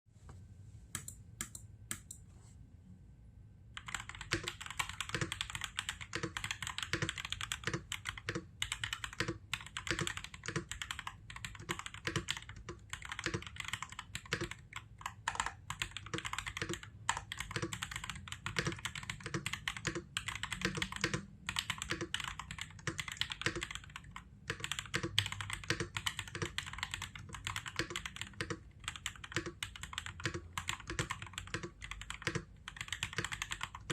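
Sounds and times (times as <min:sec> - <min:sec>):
mechanical keyboard typing: 0:03.8 - 0:33.9.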